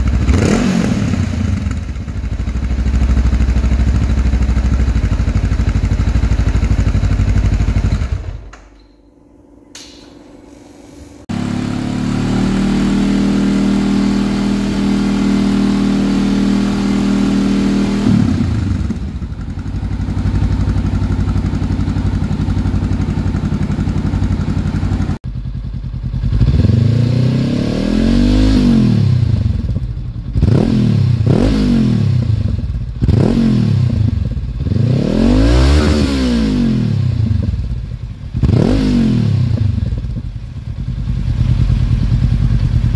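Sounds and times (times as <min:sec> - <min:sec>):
motorcycle engine revving: 0:00.0 - 0:08.7, 0:11.2 - 0:42.9.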